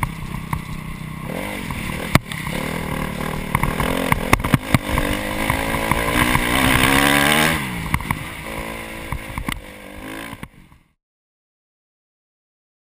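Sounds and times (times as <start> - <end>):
dirt bike engine revving: 0.0 - 10.7.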